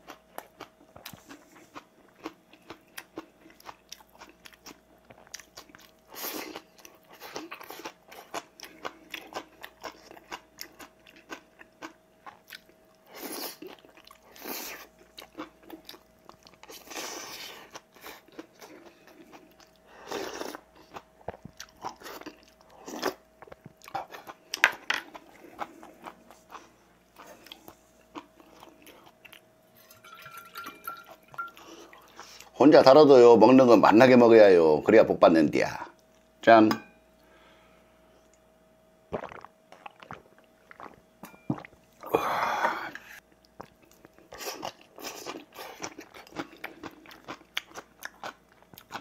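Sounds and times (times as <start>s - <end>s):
man chewing and smacking: 0.0s - 32.5s, 39.1s - 42.0s, 43.3s - 49.0s.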